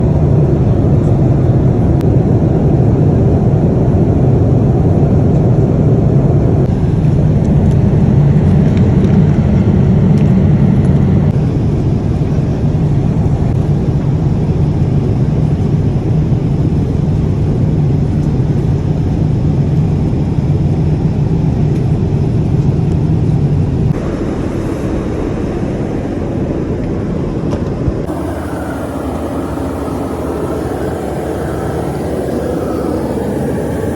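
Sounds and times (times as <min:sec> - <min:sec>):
jet engines and airflow rumble: 0:00.0 - 0:33.9.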